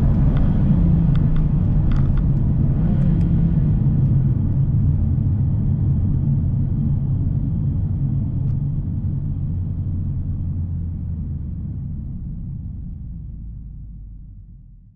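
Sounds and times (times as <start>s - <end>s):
car engine and exhaust rumble: 0.0s - 14.9s.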